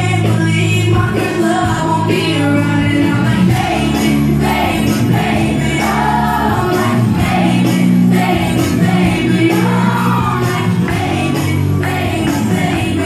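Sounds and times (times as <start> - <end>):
loud dance music: 0.0 - 13.0
percussion: 0.0 - 13.0.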